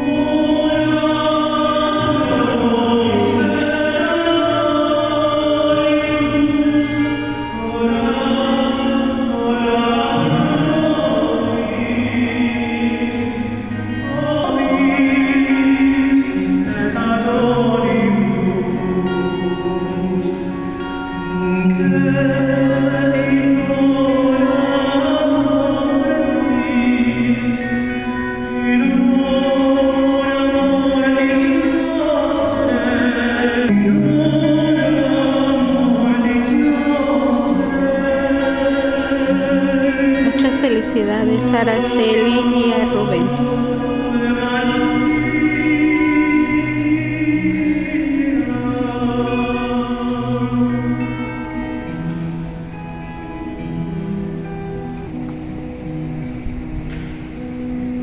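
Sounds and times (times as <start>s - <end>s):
choir singing long notes: 0.0s - 52.4s.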